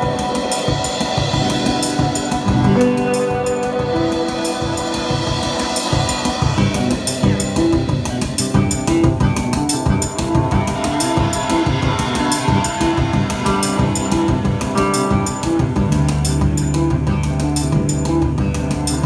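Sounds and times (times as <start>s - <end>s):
cymbal and snare hits: 0.0s - 16.7s
rock band playing: 0.0s - 19.0s.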